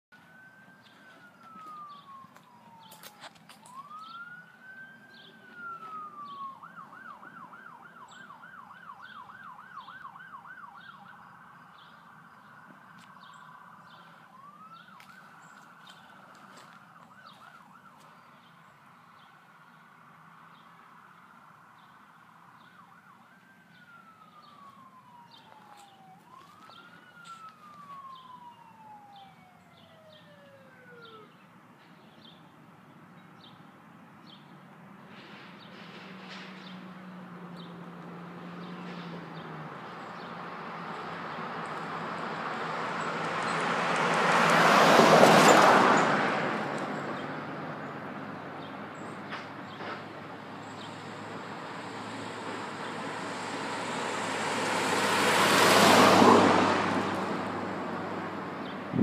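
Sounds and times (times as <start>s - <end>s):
distant fire engine siren: 0.1s - 19.6s, 22.0s - 31.9s, 35.1s - 59.0s.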